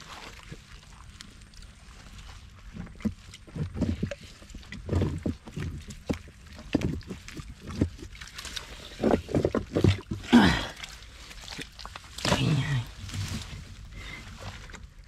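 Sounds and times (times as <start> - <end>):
rocks shifted in water: 0.0 - 15.0
water sloshing and splashing: 0.0 - 15.0.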